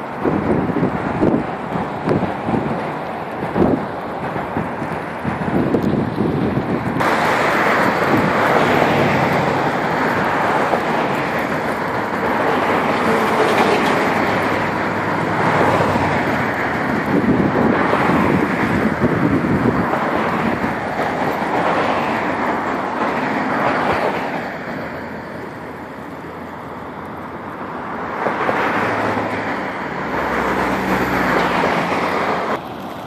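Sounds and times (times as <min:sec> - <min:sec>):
passing cars: 0:00.0 - 0:33.0.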